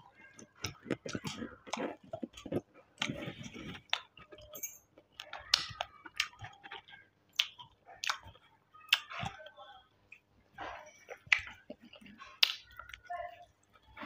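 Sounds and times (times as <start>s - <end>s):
wet open-mouth chewing: 0.0s - 9.5s, 10.1s - 14.0s.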